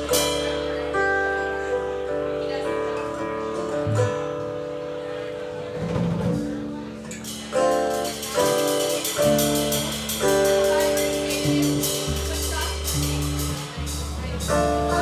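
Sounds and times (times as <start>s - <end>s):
live country band playing: 0.0s - 15.0s
strummed guitar chords: 0.0s - 15.0s.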